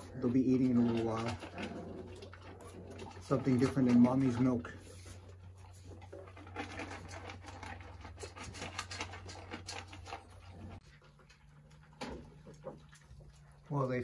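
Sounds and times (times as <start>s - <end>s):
puppy paws scratching and pattering: 0.0s - 14.0s.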